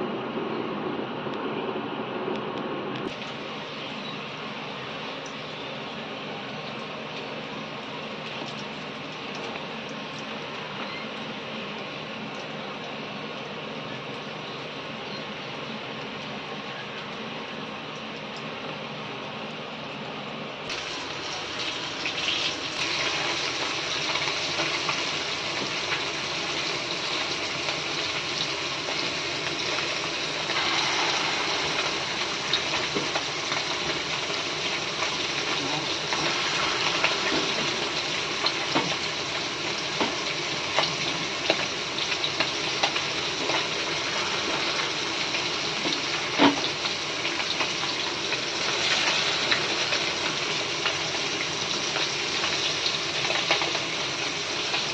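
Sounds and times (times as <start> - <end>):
fritters sizzling in hot oil: 3.1 - 19.3, 20.7 - 54.9.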